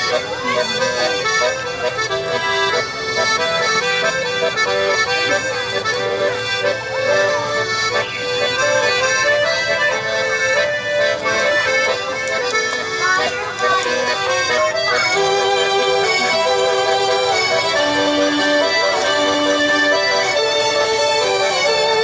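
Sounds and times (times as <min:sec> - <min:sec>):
accordion playing a tune: 0:00.0 - 0:22.0.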